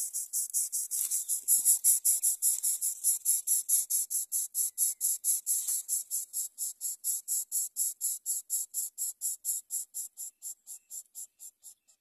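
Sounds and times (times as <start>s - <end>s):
insect calling in fast pulses: 0.0s - 11.8s.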